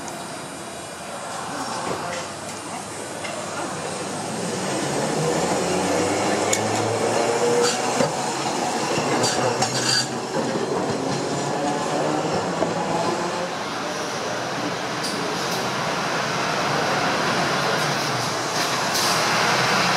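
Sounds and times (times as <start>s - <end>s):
streetcar wheels on rail: 0.0s - 19.9s.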